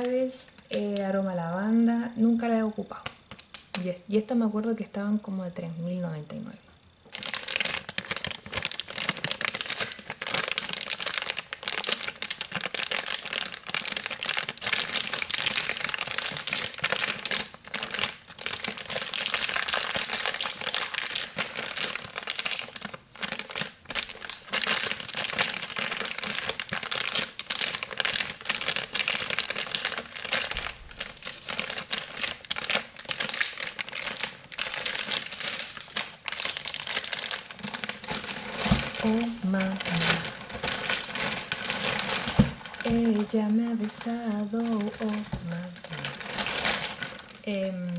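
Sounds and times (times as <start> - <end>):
plastic wrapper crinkling: 0.0 - 1.2, 2.9 - 4.0, 7.0 - 47.9.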